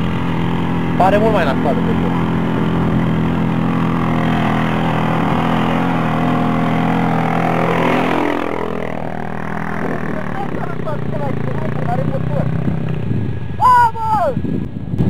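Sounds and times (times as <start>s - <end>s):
quad engine labouring: 0.0s - 15.0s.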